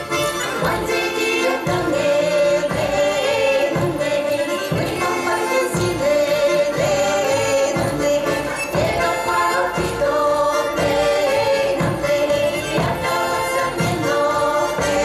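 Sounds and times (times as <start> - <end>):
accordion: 0.0 - 15.0
women's choir singing: 0.4 - 15.0.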